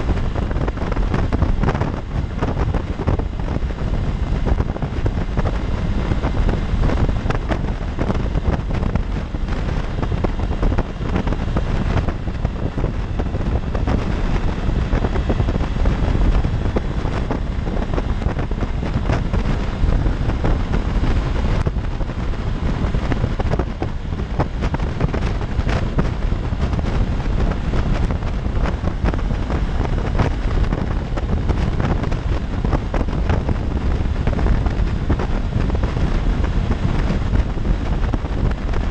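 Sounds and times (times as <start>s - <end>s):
motorcycle engine: 0.0s - 38.9s
wind rush over microphone: 0.0s - 38.9s.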